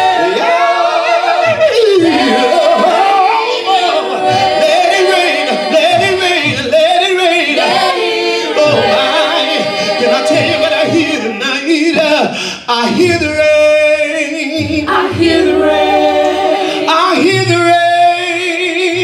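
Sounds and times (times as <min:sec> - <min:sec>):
choir singing in harmony: 0:00.0 - 0:12.3, 0:14.2 - 0:18.4.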